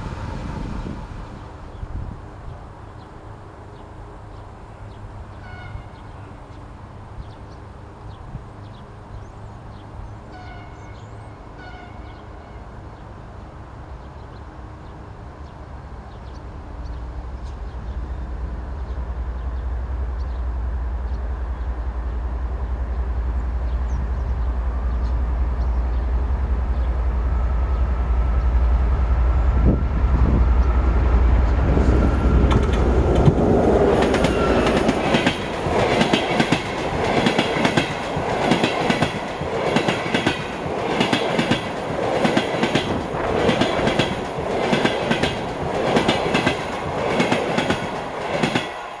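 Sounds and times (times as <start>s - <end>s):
train rumble: 0.0s - 49.0s.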